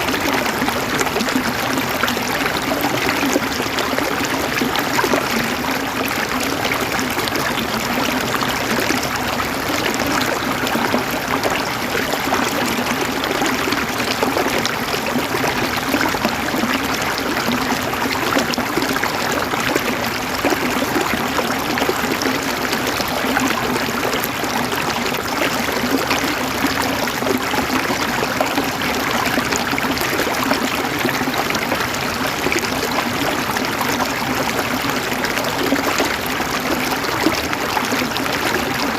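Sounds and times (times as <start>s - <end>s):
water trickling and gurgling: 0.0s - 38.9s.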